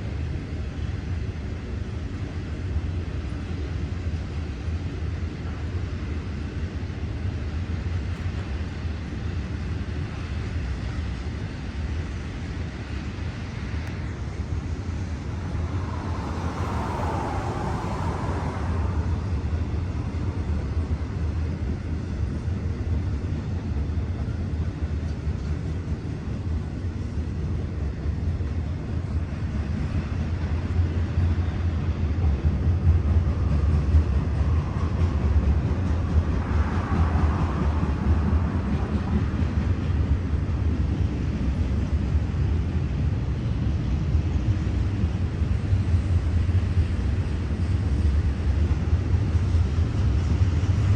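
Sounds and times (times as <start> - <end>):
freight train rumble: 0.0 - 50.9.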